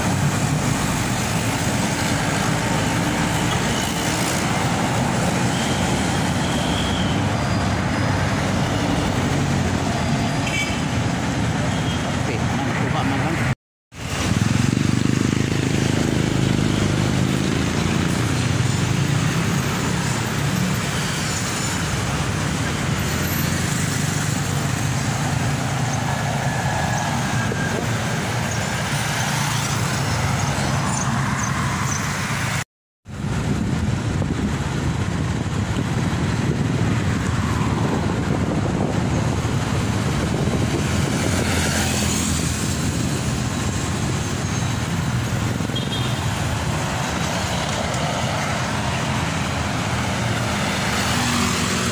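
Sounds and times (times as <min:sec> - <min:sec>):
street traffic passing: 0:00.0 - 0:51.9.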